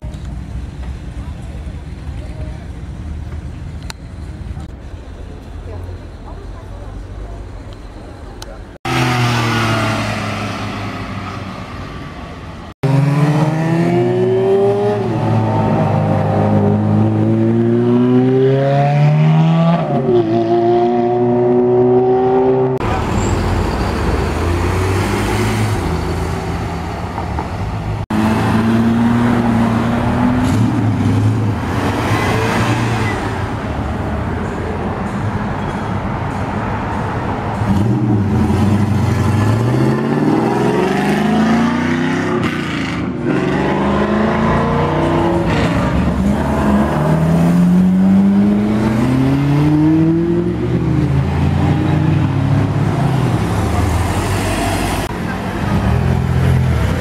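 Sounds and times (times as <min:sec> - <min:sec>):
cars driving off: 0:00.0 - 0:57.0.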